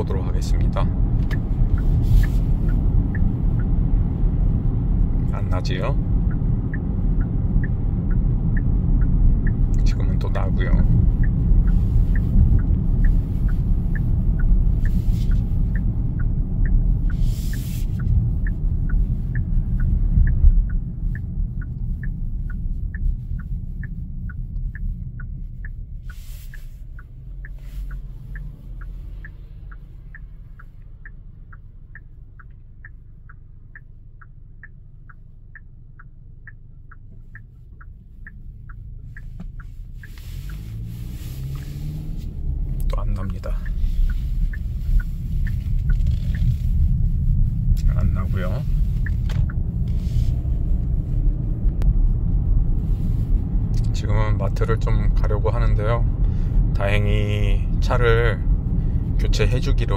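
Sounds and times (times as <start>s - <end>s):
car cabin road rumble: 0.0s - 59.9s
turn signal ticking: 0.0s - 59.9s.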